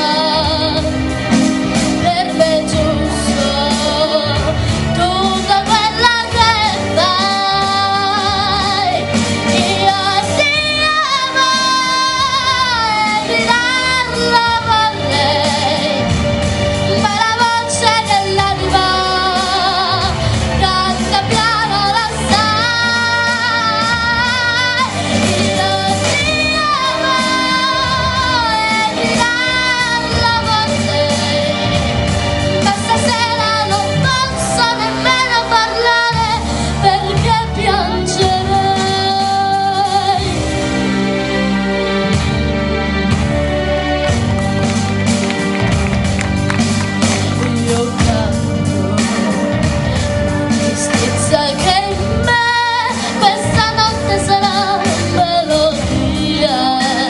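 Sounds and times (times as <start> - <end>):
girl singing ballad: 0.0 - 41.4, 47.1 - 57.0
instrumental accompaniment: 0.0 - 57.0.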